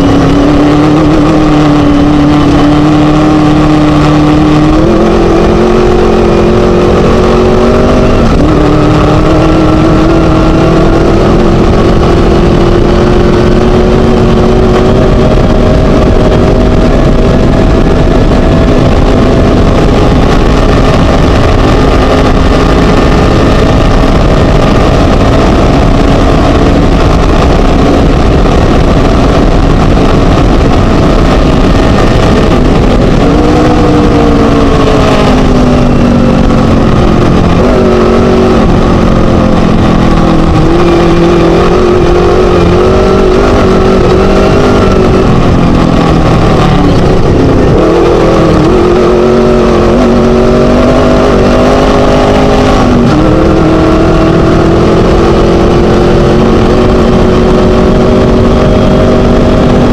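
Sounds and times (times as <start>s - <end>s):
constant rushing noise: 0.0s - 59.9s
race buggy engine revving: 0.0s - 59.9s.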